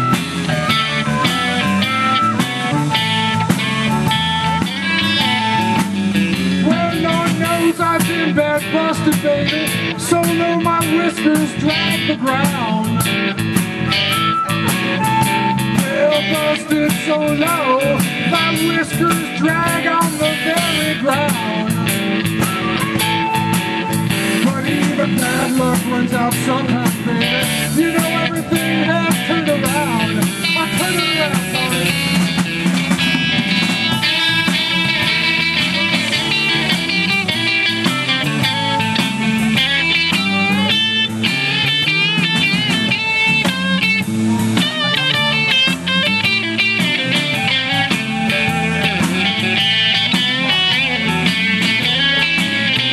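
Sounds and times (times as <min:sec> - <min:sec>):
amplified blues harmonica: 0:00.0 - 0:52.9
drums: 0:00.0 - 0:52.9
electric guitar: 0:00.0 - 0:52.9
electric guitar solo: 0:00.0 - 0:52.9.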